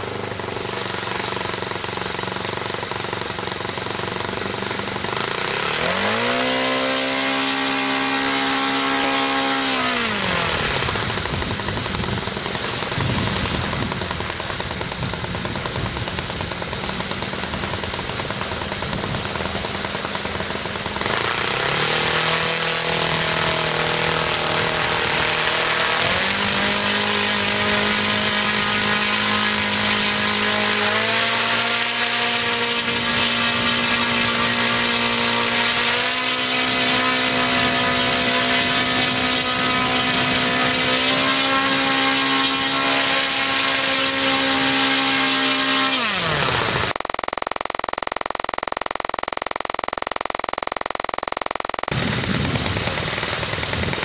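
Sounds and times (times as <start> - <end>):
model glow engine running: 0.0 - 54.0.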